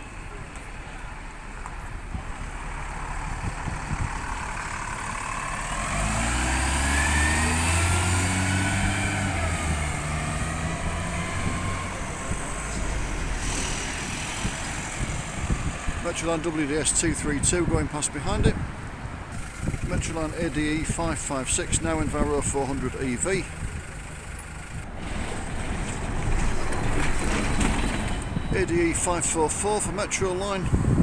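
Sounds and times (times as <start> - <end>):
engine whine: 0.0 - 29.6
bus engine passing: 0.0 - 31.0.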